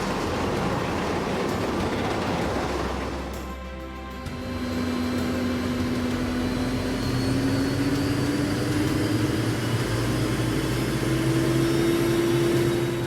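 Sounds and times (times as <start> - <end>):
heavy vehicle engine under load: 0.0 - 13.0.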